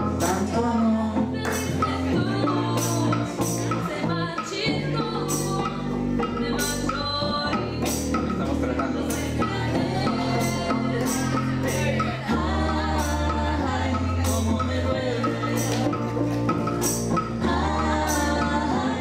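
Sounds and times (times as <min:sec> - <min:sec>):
high percussion beat: 0:00.0 - 0:19.0
keyboard and cello: 0:00.0 - 0:19.0
person singing lead vocal: 0:00.0 - 0:19.0.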